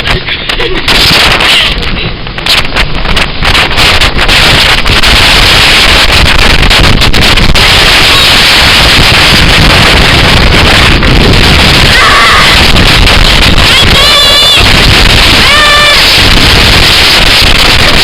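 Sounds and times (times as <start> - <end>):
wind blasting on microphone: 0.0 - 18.0.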